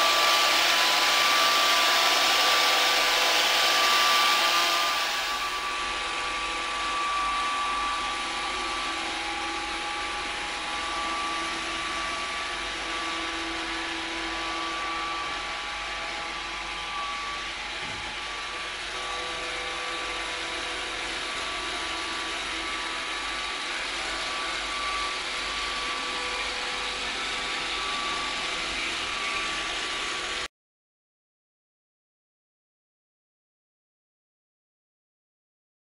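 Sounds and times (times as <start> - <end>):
robot vacuum whirring: 0.0 - 30.5
whining tones: 0.0 - 30.5.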